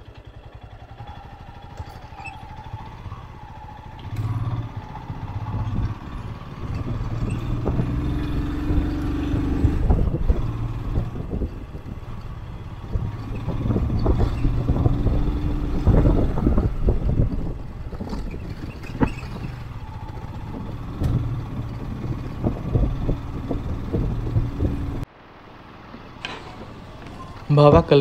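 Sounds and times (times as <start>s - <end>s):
knocks and rattles from bike: 0.0s - 25.1s, 26.2s - 28.0s
motorcycle engine running: 0.0s - 25.1s.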